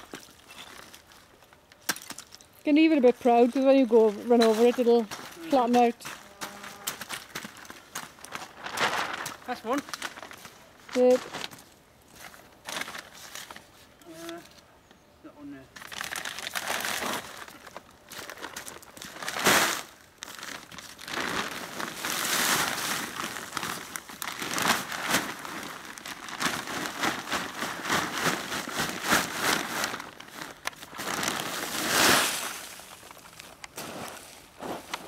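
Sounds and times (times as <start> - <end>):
plastic bag rustling: 3.2 - 14.0, 15.8 - 35.0.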